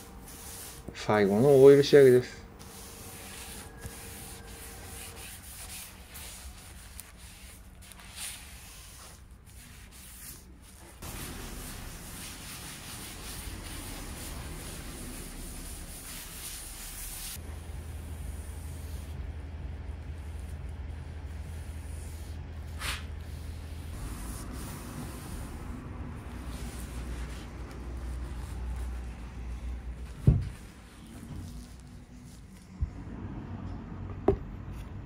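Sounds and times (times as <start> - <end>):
cloth rubbing on wood: 0.0 - 17.4, 21.5 - 32.7.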